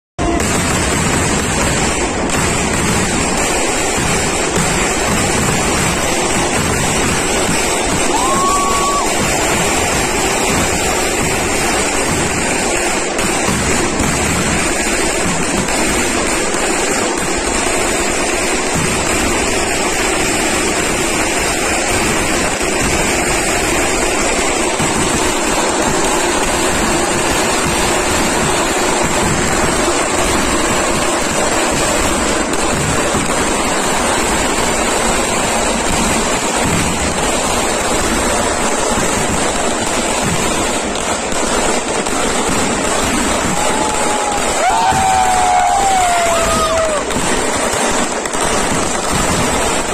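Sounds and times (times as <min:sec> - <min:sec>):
fireworks barrage rushing: 0:00.0 - 0:49.9.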